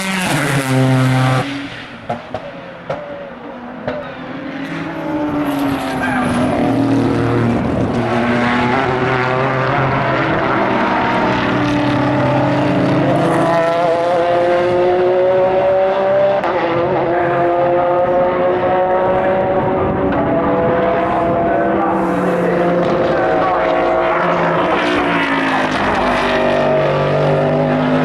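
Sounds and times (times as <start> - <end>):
racing car engines accelerating: 0.0 - 28.0.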